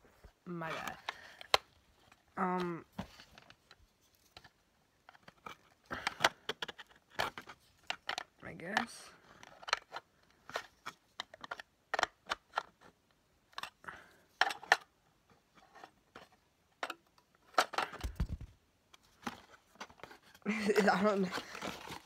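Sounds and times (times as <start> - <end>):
plastic parts clicking and tapping: 3.0 - 22.0.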